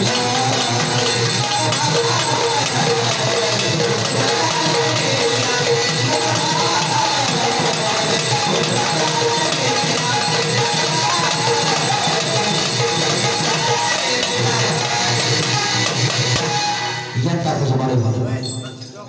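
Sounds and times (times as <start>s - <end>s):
hand drum rhythm: 0.0s - 16.6s
wavering melody line: 0.0s - 17.4s.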